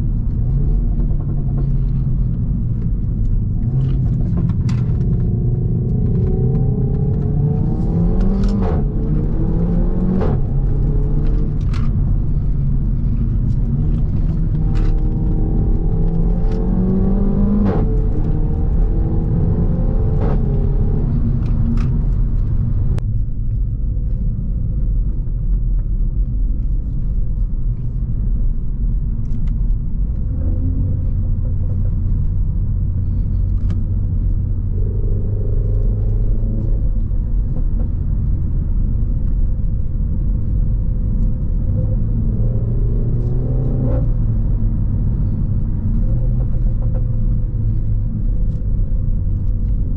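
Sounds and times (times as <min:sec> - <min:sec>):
exhaust cracks: 0:00.0 - 0:42.4
car engine rumble: 0:00.0 - 0:49.9.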